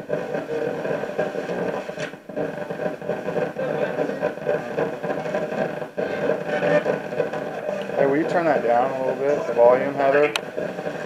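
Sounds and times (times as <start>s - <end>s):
radio static and garbled broadcast: 0.0s - 11.0s.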